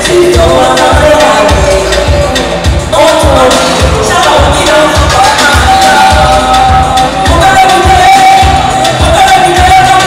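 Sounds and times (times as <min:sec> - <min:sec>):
loud music with bass beat: 0:00.0 - 0:10.0.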